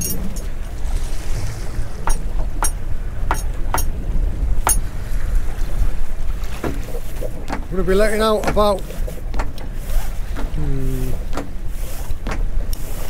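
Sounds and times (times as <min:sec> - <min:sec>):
choppy sea: 0:00.0 - 0:13.0
wind rumble: 0:00.0 - 0:13.0.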